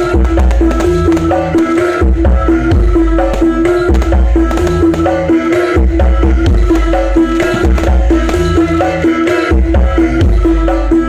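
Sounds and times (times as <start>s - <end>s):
loud dance music with heavy bass: 0.0s - 11.0s.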